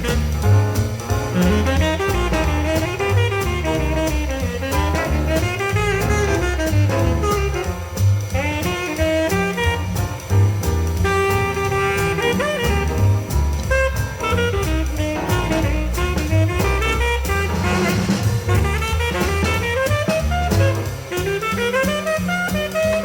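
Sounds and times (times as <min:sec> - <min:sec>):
jazz over loudspeakers: 0:00.0 - 0:23.0.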